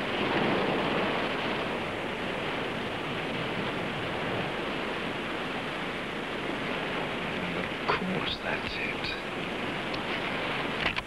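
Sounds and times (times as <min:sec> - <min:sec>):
ocean surf breaking on a beach: 0:00.0 - 0:11.0.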